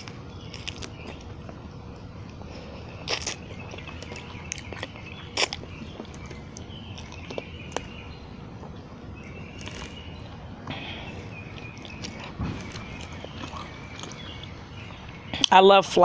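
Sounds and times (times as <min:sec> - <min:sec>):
chewing and biting: 0:00.0 - 0:15.5
birds chirping faintly: 0:00.0 - 0:16.0.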